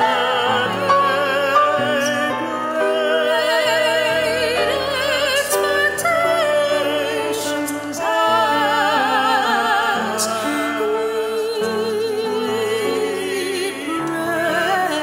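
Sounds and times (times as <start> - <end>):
grand piano accompaniment: 0.0 - 15.0
woman and man singing duet: 0.0 - 15.0.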